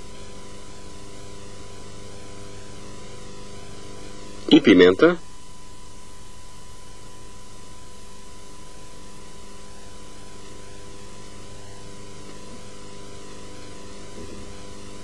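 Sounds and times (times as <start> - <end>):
tape hiss: 0.0 - 15.0.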